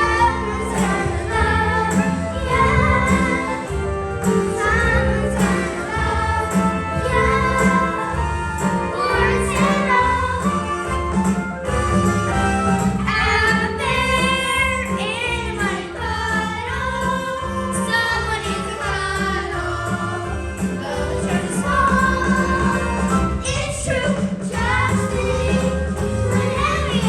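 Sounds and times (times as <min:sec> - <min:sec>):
group singing: 0:00.0 - 0:11.3, 0:13.1 - 0:27.0
instrumental accompaniment with beat: 0:00.0 - 0:27.0.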